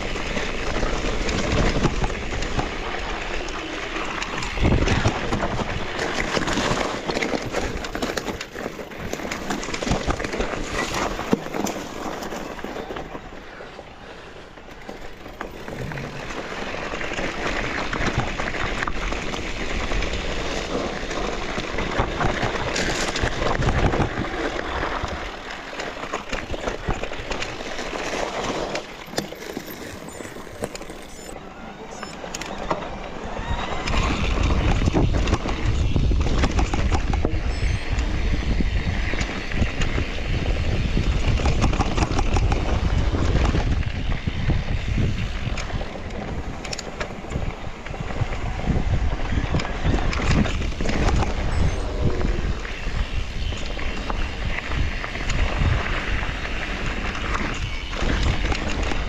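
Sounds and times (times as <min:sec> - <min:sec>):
bike rattling: 0:00.0 - 0:59.0
tyres running over dirt: 0:00.0 - 0:59.0
wind rumbling on microphone: 0:00.0 - 0:59.0.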